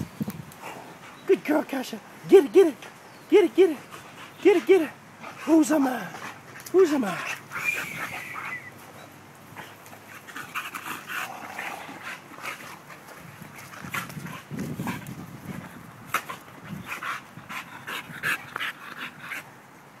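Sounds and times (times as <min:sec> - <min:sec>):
dogs breathing hard: 0:00.5 - 0:01.6, 0:03.8 - 0:19.7.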